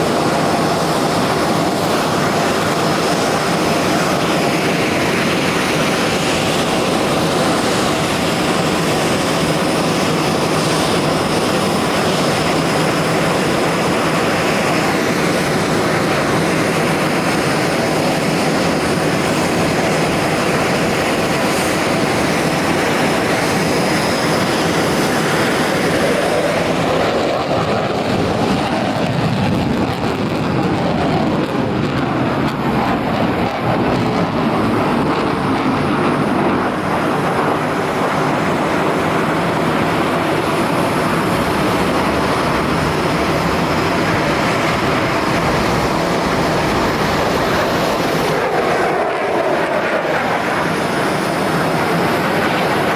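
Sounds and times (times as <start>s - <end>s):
jet engine roar: 0.0s - 52.9s.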